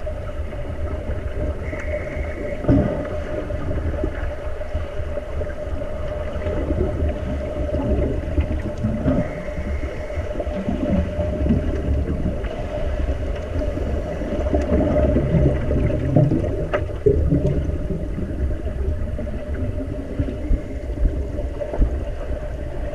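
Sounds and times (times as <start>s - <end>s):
muffled underwater rumble: 0.0s - 22.9s
steady mid-pitched hum: 0.0s - 22.9s
water churning and bubbles: 0.0s - 22.9s.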